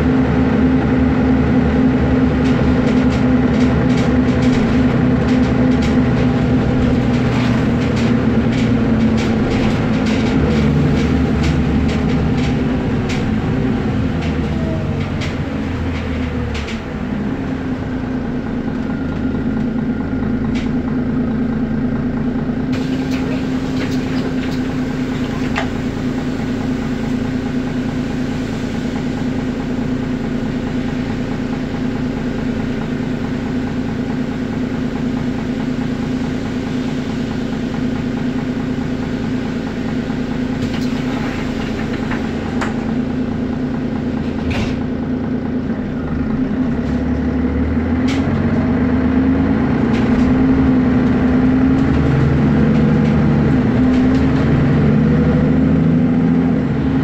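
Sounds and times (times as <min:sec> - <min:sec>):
bus body rattling and knocking: 0:00.0 - 0:57.0
bus diesel engine running: 0:00.0 - 0:57.0.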